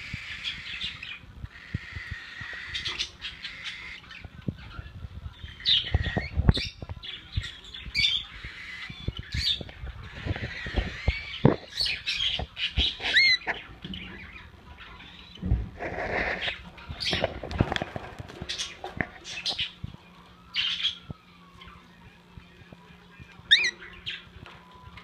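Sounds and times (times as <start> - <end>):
cockatiels chirping and squawking: 0.0 - 19.9, 20.5 - 21.9, 23.3 - 25.0.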